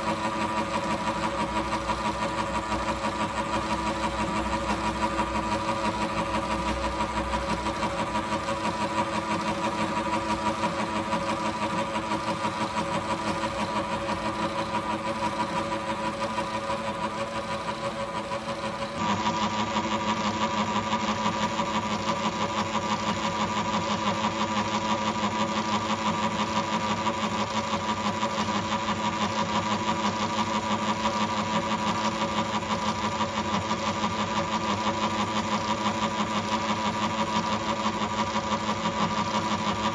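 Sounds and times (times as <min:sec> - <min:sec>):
milling machine whirring: 0:00.0 - 0:39.9.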